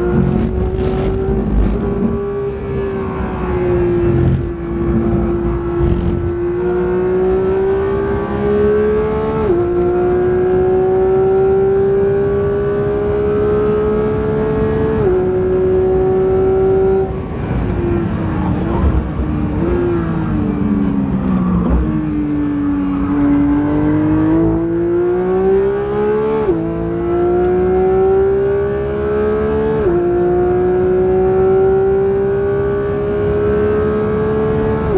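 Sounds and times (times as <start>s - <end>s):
car engine revving in cabin: 0.0s - 34.9s.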